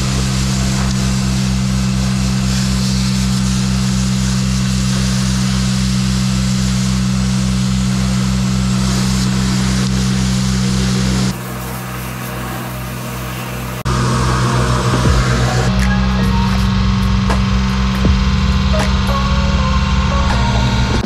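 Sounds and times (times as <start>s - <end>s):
pump engine pulsing: 0.0s - 21.0s
water spraying from hose: 0.0s - 21.0s.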